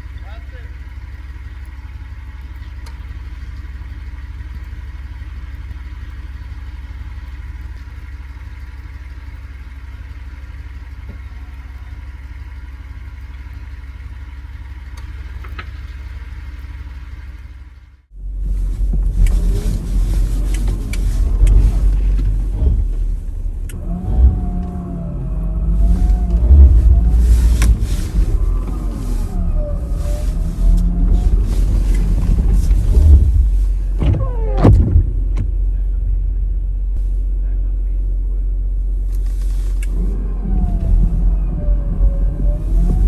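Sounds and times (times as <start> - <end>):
car engine drone: 0.0 - 43.0
rough engine and driving noise: 0.0 - 43.0.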